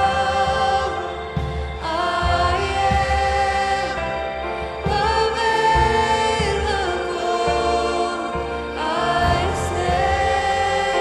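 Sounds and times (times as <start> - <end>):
band with steady bass: 0.0 - 11.0
voices singing held notes: 0.0 - 11.0.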